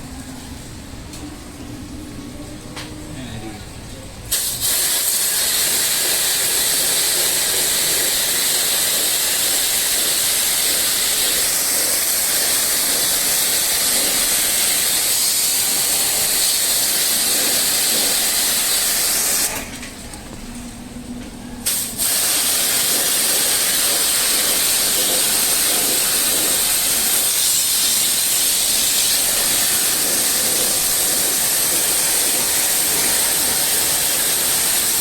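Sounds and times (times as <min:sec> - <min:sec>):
high-pressure water jet hissing: 0:04.3 - 0:19.8, 0:21.6 - 0:35.0.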